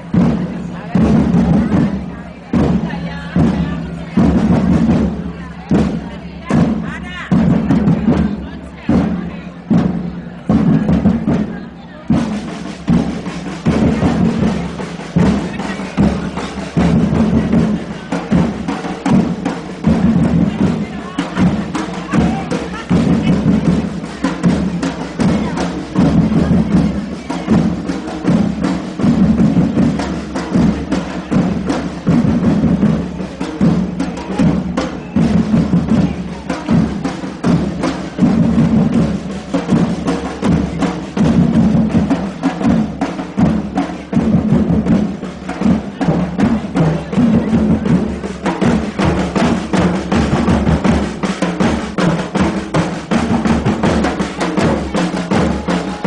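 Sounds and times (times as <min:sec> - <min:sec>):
low drum beat: 0:00.0 - 0:56.0.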